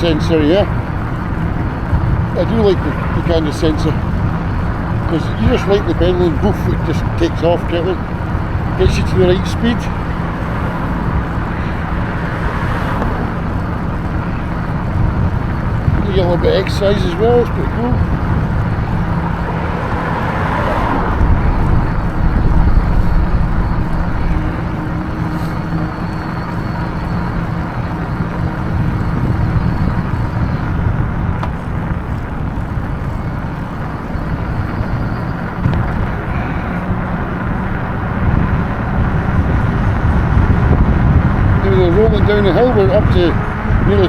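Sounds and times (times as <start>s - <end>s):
road and wind noise: 0.0s - 44.0s.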